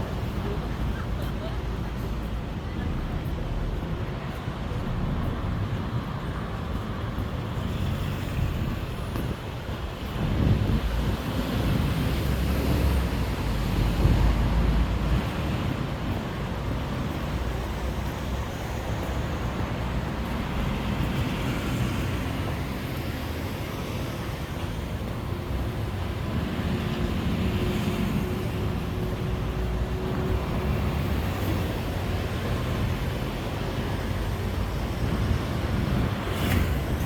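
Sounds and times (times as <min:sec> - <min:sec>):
passing vehicles: 0:00.0 - 0:37.0
vehicle low rumble: 0:00.0 - 0:37.0.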